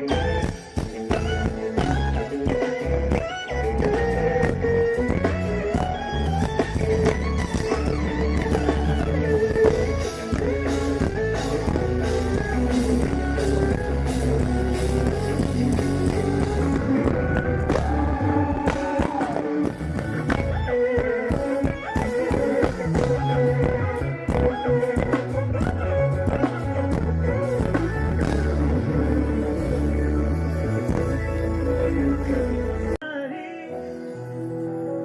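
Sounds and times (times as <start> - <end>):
live rock band playing: 0.0 - 35.0
person singing: 0.0 - 35.0.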